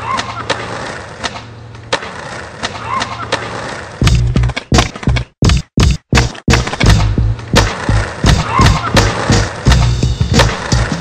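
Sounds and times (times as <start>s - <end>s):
skateboard clicking over joints: 0.0s - 5.4s, 6.1s - 11.0s
skateboard wheels rolling on pavement: 0.0s - 5.4s, 6.4s - 11.0s.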